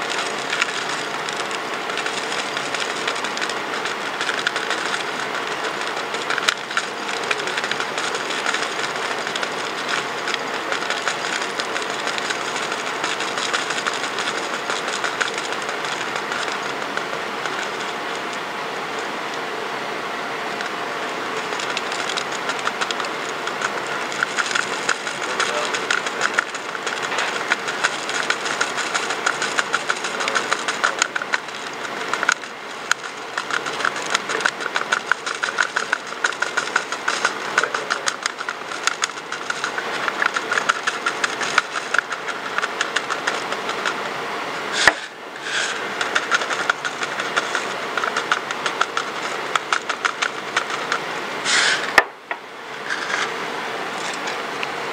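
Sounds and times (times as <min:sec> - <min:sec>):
plastic dish ticking and crinkling: 0:00.0 - 0:18.4, 0:20.6 - 0:44.0, 0:45.6 - 0:51.1
steady background hum: 0:00.0 - 0:54.9.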